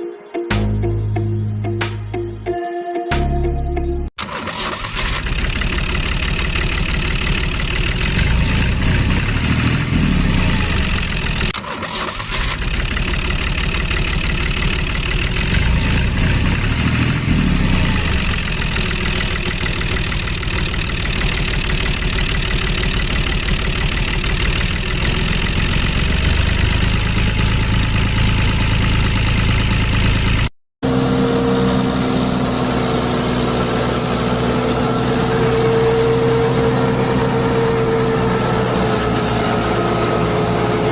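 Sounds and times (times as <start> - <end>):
engine running rough rumble: 4.2 - 40.9.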